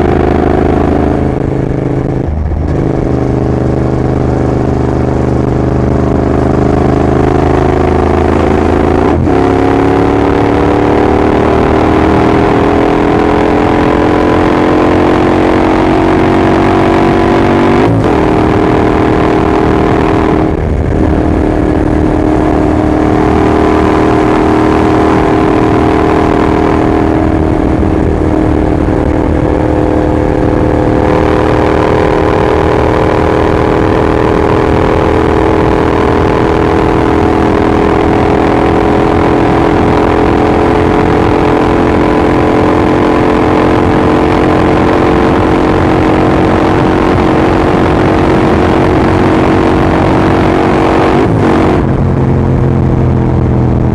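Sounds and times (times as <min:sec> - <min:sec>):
motorcycle engine droning: 0:00.0 - 0:53.9.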